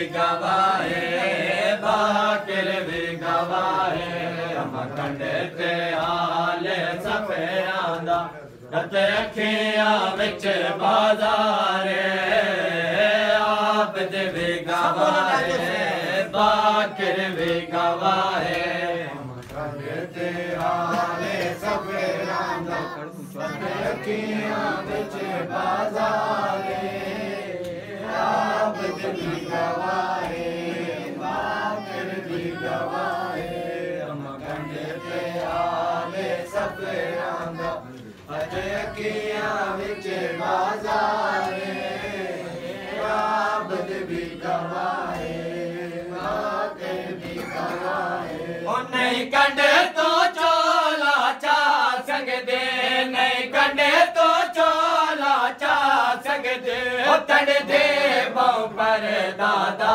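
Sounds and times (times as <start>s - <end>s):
men chanting in unison: 0.0s - 59.9s
rhythmic chest-beating: 0.0s - 59.9s.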